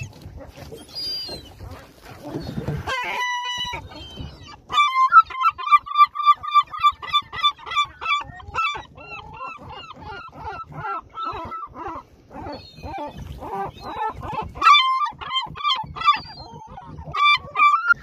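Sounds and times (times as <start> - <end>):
autotuned gull yelping calls: 2.3 - 18.0.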